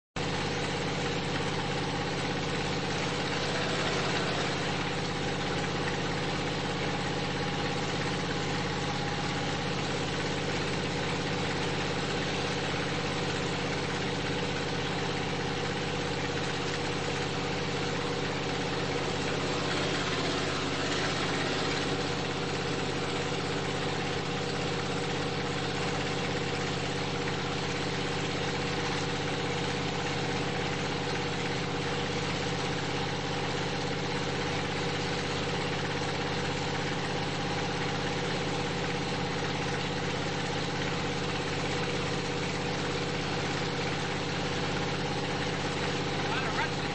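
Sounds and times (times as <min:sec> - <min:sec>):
truck engine running: 0:00.2 - 0:46.9.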